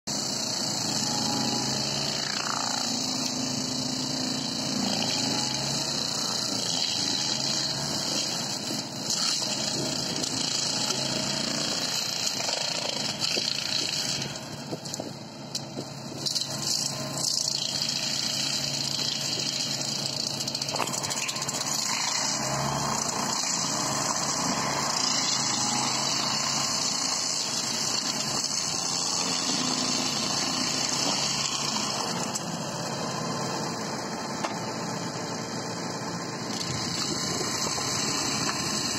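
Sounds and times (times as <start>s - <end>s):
mulcher rotor shredding brush: 0.1s - 38.9s
tractor engine droning under load: 0.1s - 38.9s.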